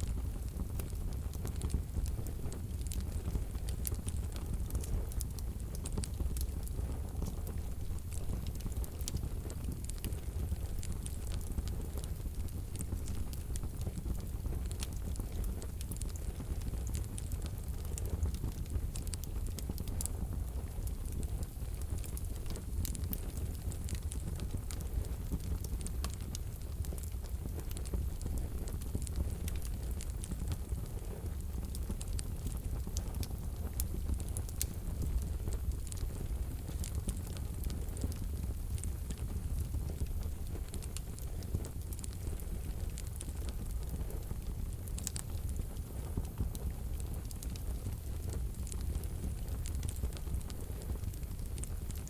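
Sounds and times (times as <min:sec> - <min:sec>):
low rumble of stove: 0:00.0 - 0:52.0
wood fire crackling in stove: 0:00.0 - 0:52.0.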